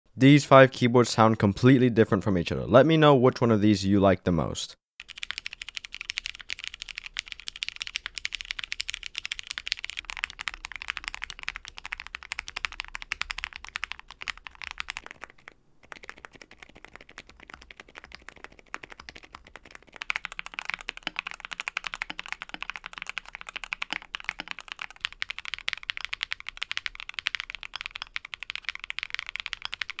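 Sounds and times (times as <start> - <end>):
fast mechanical keyboard typing: 5.0 - 30.0.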